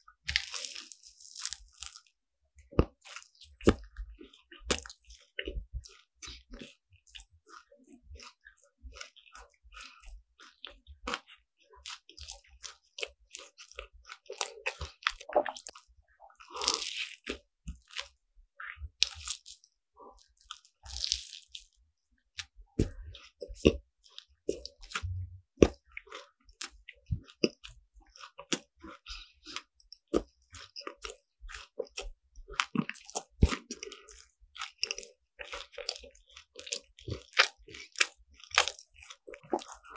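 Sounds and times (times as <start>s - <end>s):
crunching and chewing pastry: 0.0s - 39.9s.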